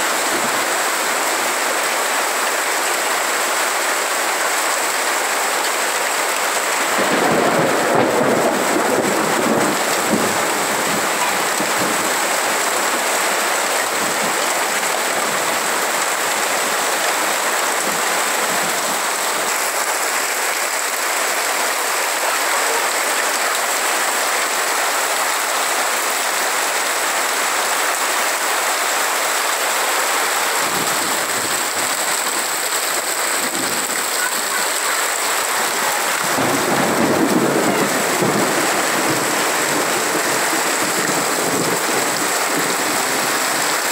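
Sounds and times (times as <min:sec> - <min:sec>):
heavy rain on concrete: 0:00.0 - 0:43.9.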